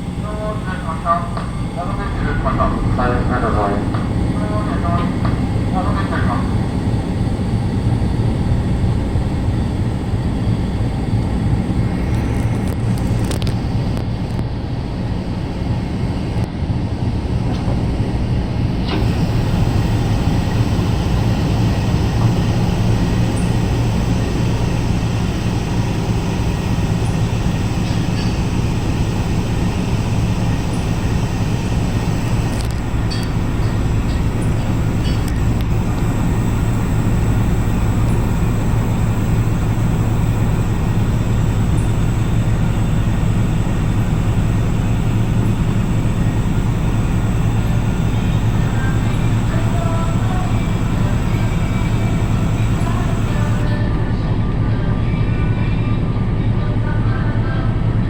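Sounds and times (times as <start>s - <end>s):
ferry engines droning: 0.0s - 58.0s.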